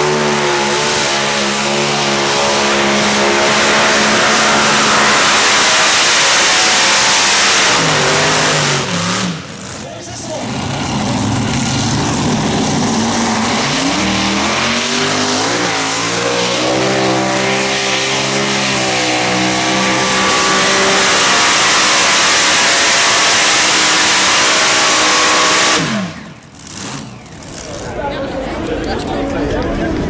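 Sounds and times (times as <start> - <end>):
tractor engines roaring: 0.0 - 30.0.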